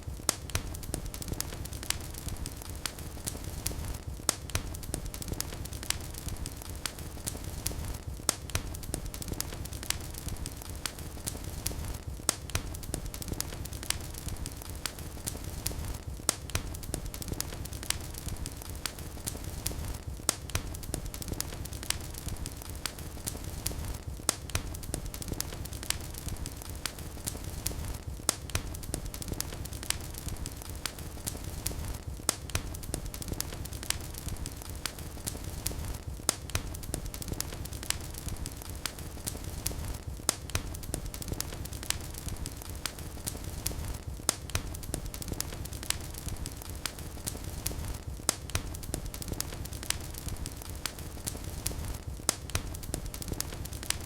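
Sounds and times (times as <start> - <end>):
fire crackling and snapping: 0.0 - 54.0
low rumble of flames: 0.0 - 54.0.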